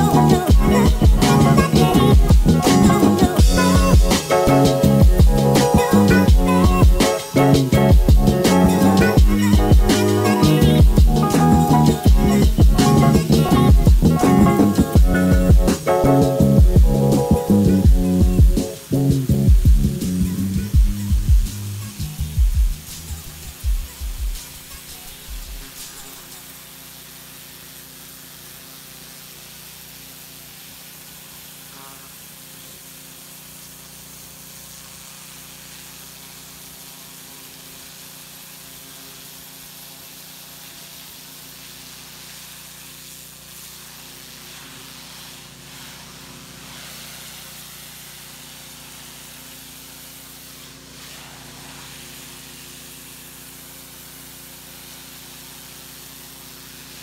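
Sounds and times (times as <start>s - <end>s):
pressure washer motor humming: 0.0s - 57.0s
water jet hissing on wall: 0.0s - 57.0s.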